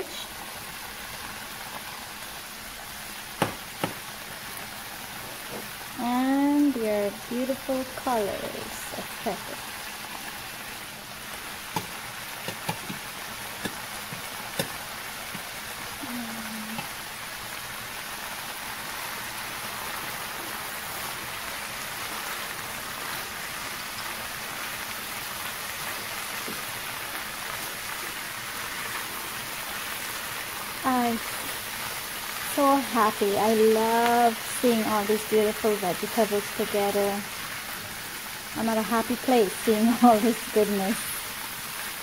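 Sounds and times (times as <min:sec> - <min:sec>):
vegetables sizzling in a pan: 0:00.0 - 0:42.0.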